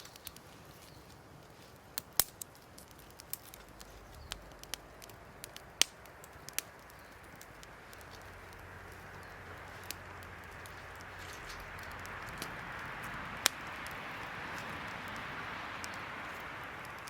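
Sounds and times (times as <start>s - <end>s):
wood fire crackling in stove: 0.0s - 17.0s.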